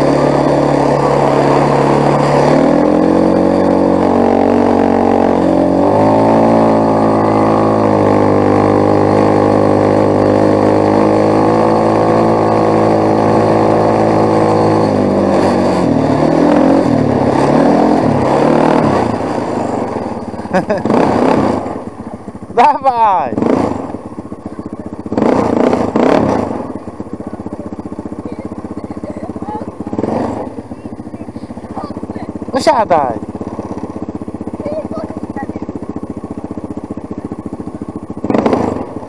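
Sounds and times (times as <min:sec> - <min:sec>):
quad bike engine revving: 0:00.0 - 0:39.0.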